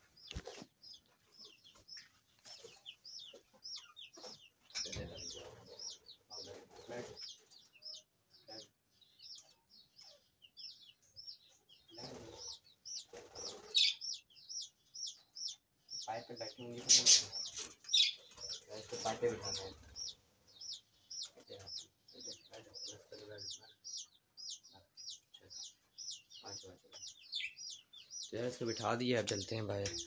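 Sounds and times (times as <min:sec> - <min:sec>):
budgerigars chirping: 0:00.0 - 0:30.0.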